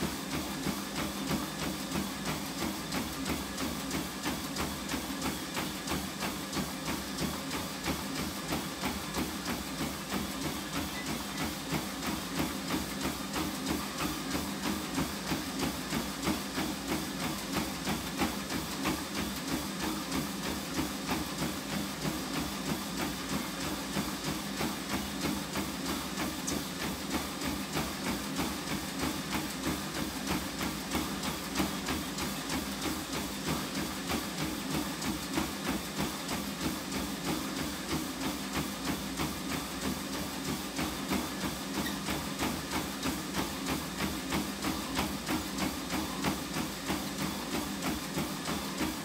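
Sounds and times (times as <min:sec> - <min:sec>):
footfalls on treadmill belt: 0:00.0 - 0:49.0
treadmill motor hum: 0:00.0 - 0:49.0.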